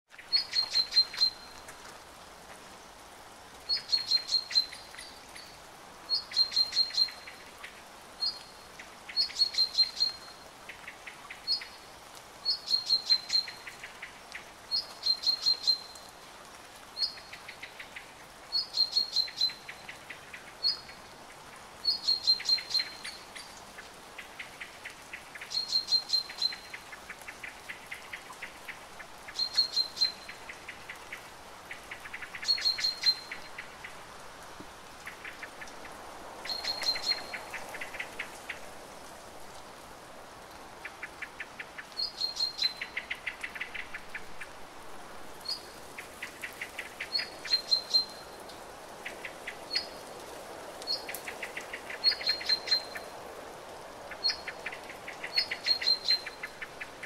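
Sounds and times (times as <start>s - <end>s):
songbird singing: 0.1s - 1.7s, 3.6s - 16.2s, 16.9s - 34.0s, 35.0s - 38.7s, 40.8s - 44.6s, 45.4s - 50.2s, 50.8s - 53.2s, 54.1s - 57.0s
rain falling on leaves: 0.1s - 57.0s.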